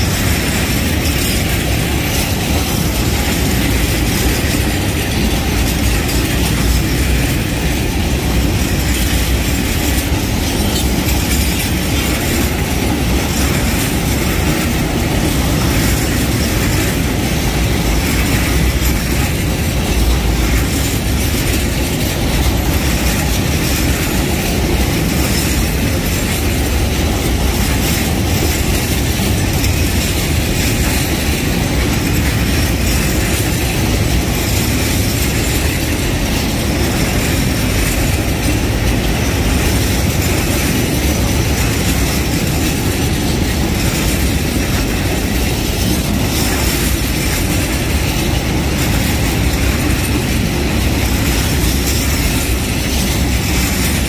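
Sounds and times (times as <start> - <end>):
rail clatter: 0.0 - 54.0
train wheels rumbling on track: 0.0 - 54.0.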